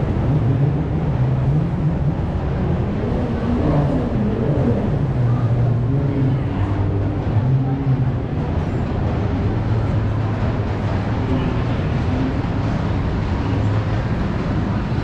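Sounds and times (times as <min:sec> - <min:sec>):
indistinct voices murmuring: 0:00.0 - 0:15.0
steady low rumble: 0:00.0 - 0:15.0.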